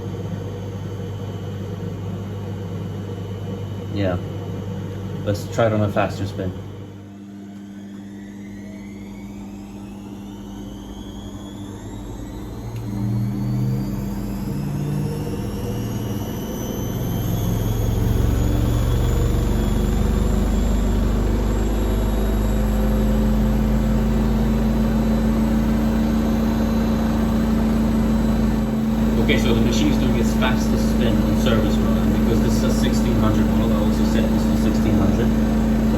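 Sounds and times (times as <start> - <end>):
washing machine motor whine: 0.0 - 35.9.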